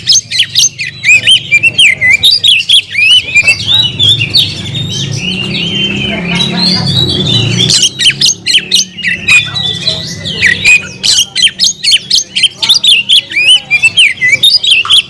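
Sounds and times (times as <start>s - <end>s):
bird singing loudly: 0.0s - 15.0s.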